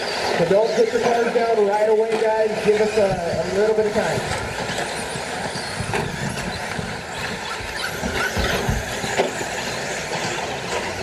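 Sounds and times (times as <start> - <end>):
rc trucks whirring: 0.0 - 11.0
rising motor whines: 0.0 - 11.0.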